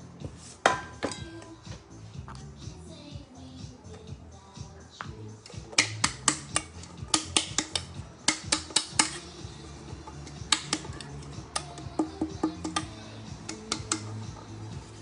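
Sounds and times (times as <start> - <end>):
faint music: 0.0 - 15.0.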